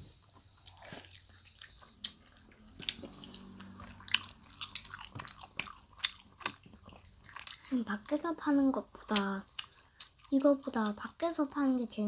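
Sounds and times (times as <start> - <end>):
chewing with wet mouth clicks: 0.2 - 8.2, 8.9 - 10.8.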